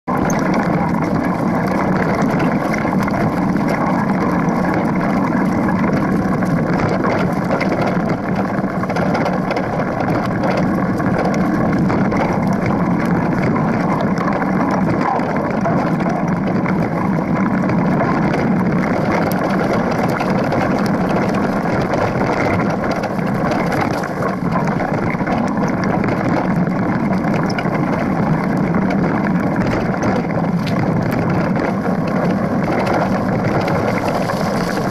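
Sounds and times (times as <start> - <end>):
tyre rumbling on dirt trail: 0.1 - 34.9.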